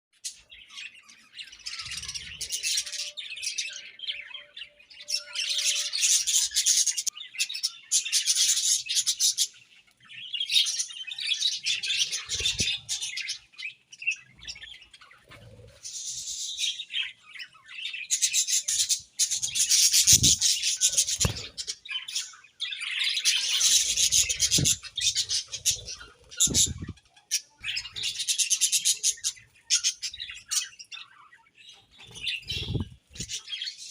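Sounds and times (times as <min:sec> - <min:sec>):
budgerigars chirping and warbling: 0:00.2 - 0:33.9.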